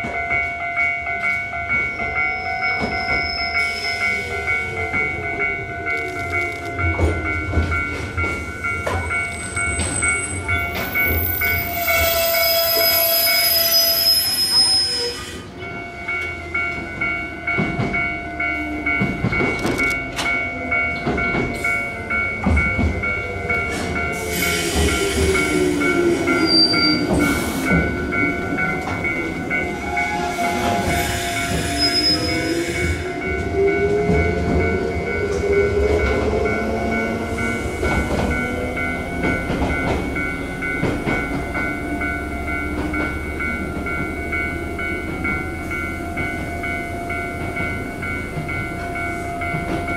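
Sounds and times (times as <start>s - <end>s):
steady high tone: 0.1s - 49.9s.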